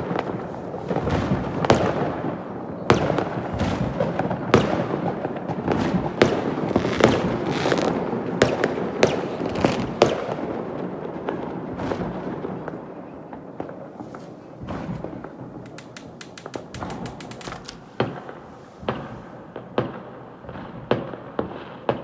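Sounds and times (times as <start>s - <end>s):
fireworks crackling: 0.0s - 12.9s, 13.7s - 20.2s
fireworks bangs: 0.0s - 21.9s.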